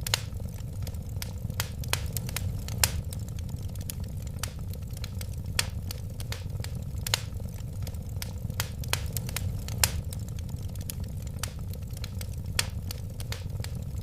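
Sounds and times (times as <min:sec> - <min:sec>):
loud sharp fire pops: 0:00.0 - 0:14.0
low rumble of fire: 0:00.0 - 0:14.0
wood fire crackling: 0:00.0 - 0:14.0.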